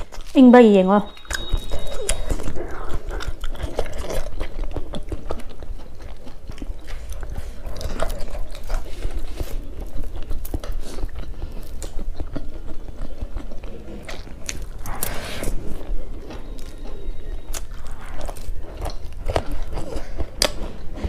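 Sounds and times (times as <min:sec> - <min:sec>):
people chewing food: 0:00.0 - 0:21.0.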